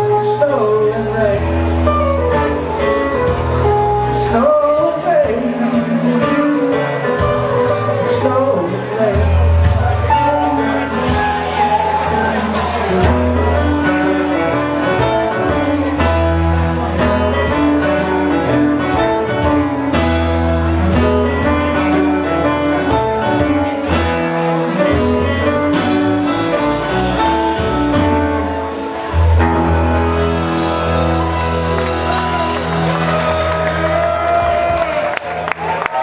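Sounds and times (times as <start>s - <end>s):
rock band playing: 0.0s - 36.0s.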